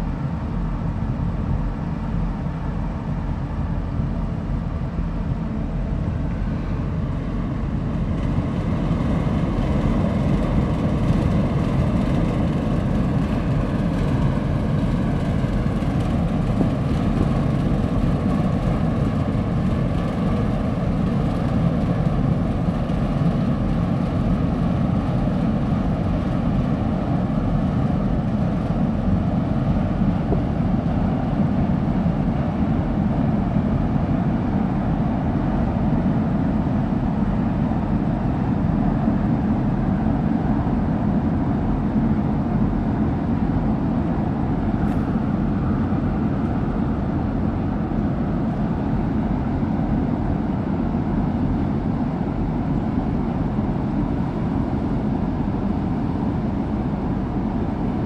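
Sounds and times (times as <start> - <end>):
container ship rumble: 0.0 - 58.0.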